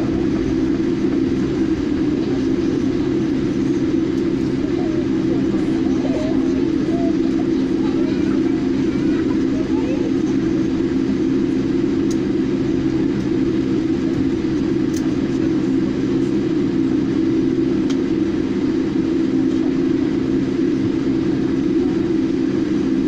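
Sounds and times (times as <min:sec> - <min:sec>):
aircraft cabin drone: 0:00.0 - 0:23.0.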